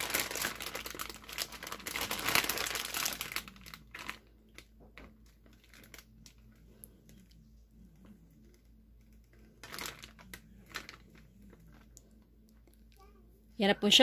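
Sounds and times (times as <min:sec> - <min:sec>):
plastic bag crinkling: 0:00.0 - 0:12.9.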